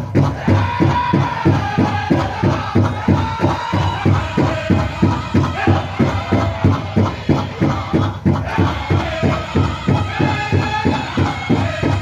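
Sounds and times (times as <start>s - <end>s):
big drum beating fast: 0.0s - 12.0s.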